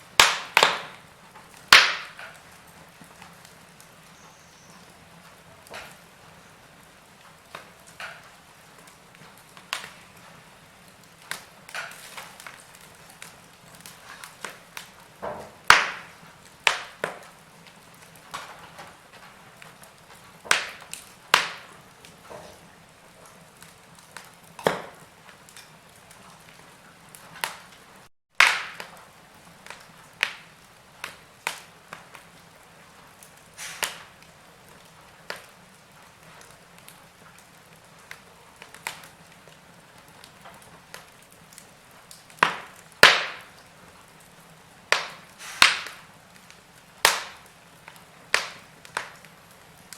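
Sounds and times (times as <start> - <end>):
faint steady hiss: 0.0 - 49.9
log fire crackling: 0.0 - 49.9.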